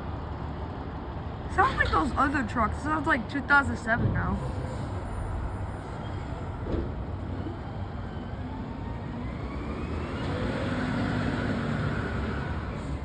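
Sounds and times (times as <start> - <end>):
garbage truck diesel engine: 0.0 - 13.0.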